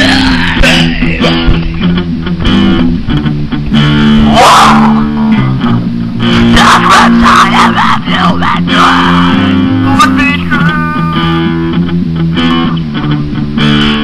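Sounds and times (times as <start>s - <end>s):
rock song with electric guitar: 0.0s - 14.0s.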